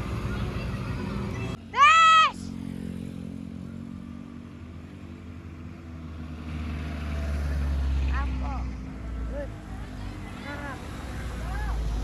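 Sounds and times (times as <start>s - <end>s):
vehicle engine rumbling: 0.0s - 1.8s, 2.4s - 12.0s.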